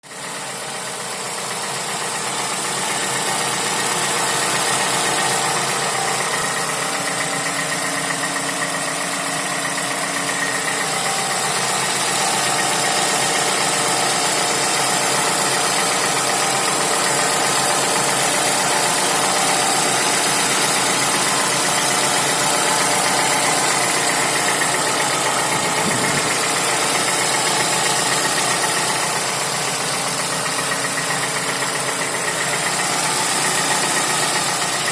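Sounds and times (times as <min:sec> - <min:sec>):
car engine idling with knock: 0:00.1 - 0:34.9.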